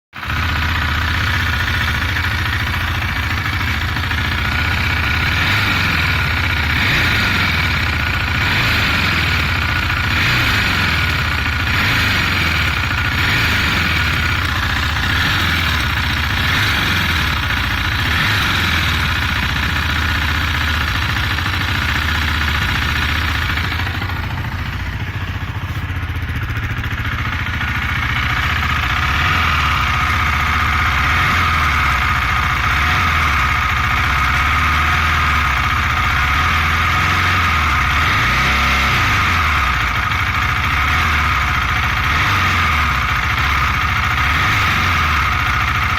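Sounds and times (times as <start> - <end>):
motorcycle engine revving: 0.1 - 45.9.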